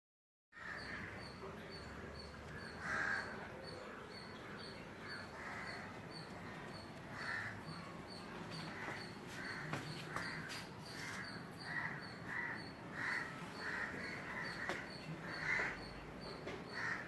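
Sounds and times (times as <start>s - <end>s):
harsh bird calls: 0.6s - 17.0s.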